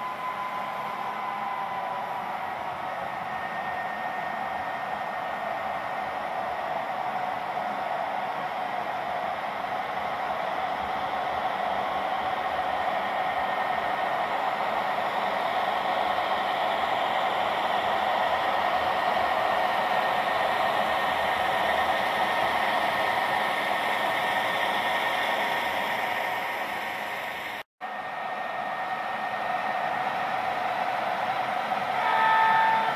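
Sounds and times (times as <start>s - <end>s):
model train whirring past: 0.0s - 32.9s.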